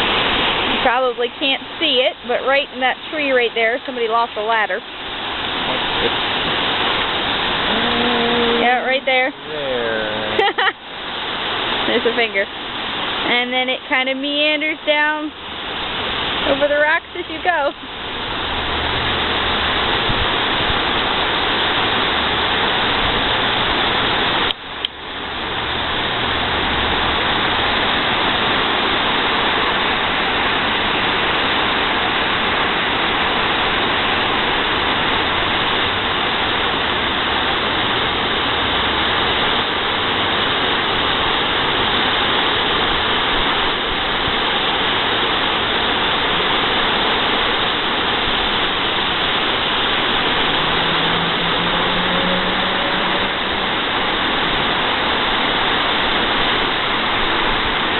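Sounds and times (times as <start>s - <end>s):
water cascading over rocks: 0.0s - 57.9s.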